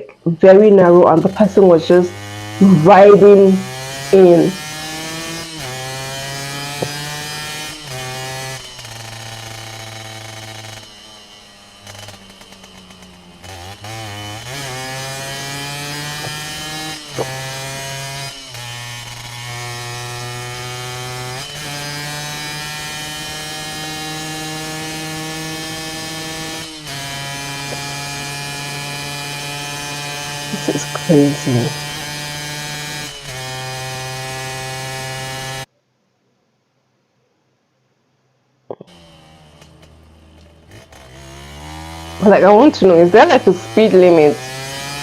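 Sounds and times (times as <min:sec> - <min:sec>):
sport bike engine accelerating: 0:00.1 - 0:35.7, 0:38.7 - 0:45.0.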